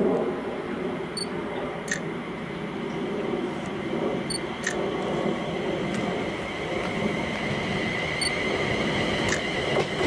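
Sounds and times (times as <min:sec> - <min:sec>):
train wheels rumbling on rails: 0:00.0 - 0:10.0
high-pitched whine: 0:00.8 - 0:10.0.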